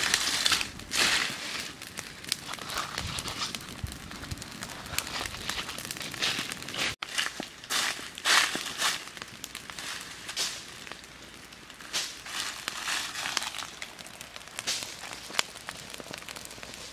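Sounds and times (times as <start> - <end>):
footsteps crunching dry leaves: 0.0 - 10.8, 11.9 - 16.9
wood fire crackling and popping: 0.0 - 16.9.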